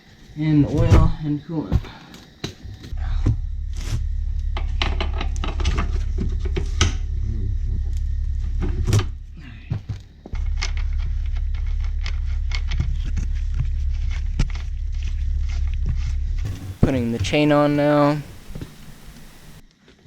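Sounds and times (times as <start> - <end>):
steady low hum: 2.6 - 19.7.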